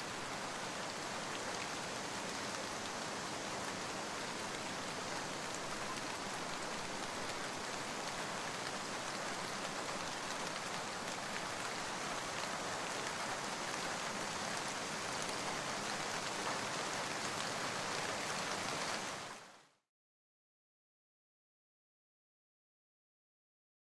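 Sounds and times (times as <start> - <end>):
steady rain: 0.0 - 19.8.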